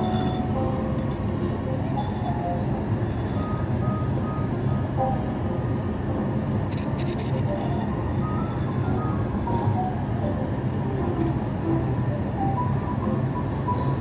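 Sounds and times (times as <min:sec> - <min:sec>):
quiet background music: 0:00.0 - 0:14.0
steady low hum: 0:00.0 - 0:14.0.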